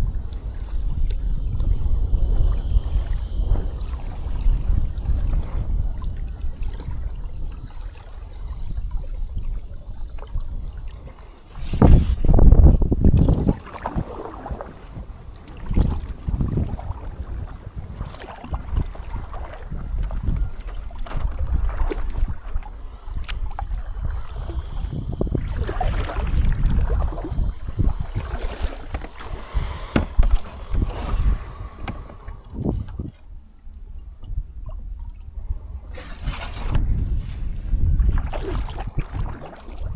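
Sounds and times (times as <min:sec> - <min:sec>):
water lapping along a hull: 0:00.0 - 0:39.9
wind rumble on microphone: 0:00.0 - 0:39.9.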